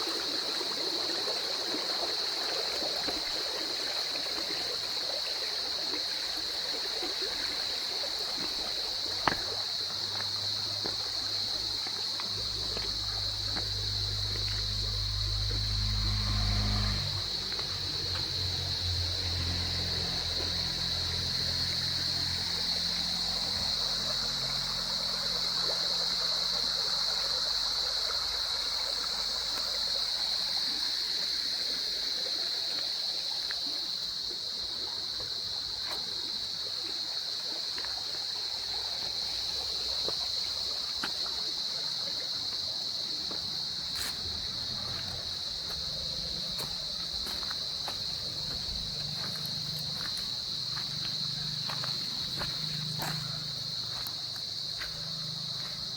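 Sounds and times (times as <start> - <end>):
insects droning: 0.0 - 55.9
stream trickling between rocks: 0.0 - 55.9.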